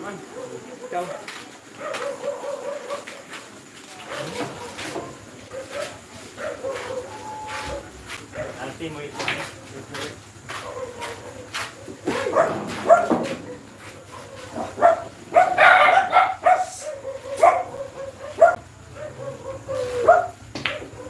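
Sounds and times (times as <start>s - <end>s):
dog barking: 0.0s - 9.4s, 10.5s - 21.0s.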